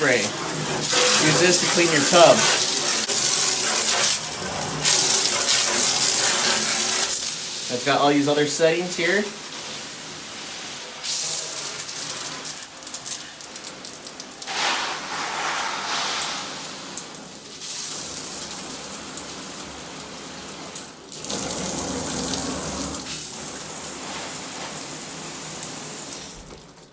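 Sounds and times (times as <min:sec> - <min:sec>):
shower spray hissing: 0:00.0 - 0:26.5.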